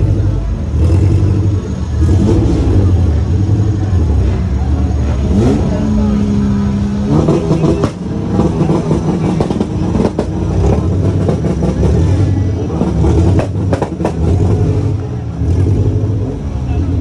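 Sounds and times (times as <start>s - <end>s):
car engine running: 0.0s - 17.0s
crowd voices: 0.0s - 17.0s.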